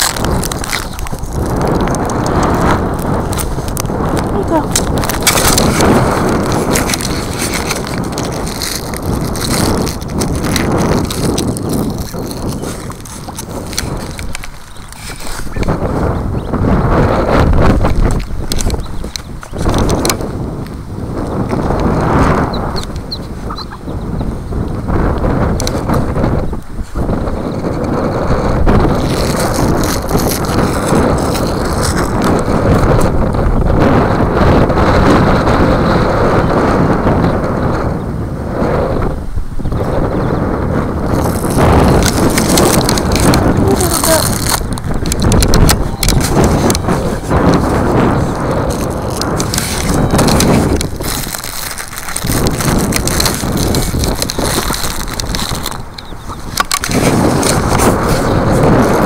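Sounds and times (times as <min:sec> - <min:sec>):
rustling crunching noise: 0:00.0 - 0:37.8, 0:39.7 - 0:59.0
wind buffeting microphone: 0:00.0 - 0:59.0.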